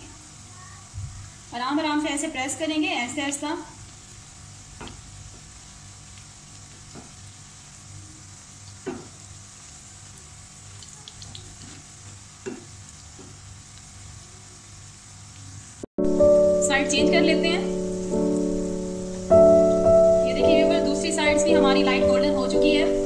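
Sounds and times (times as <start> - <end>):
food sizzling in hot oil: 2.9 - 23.0.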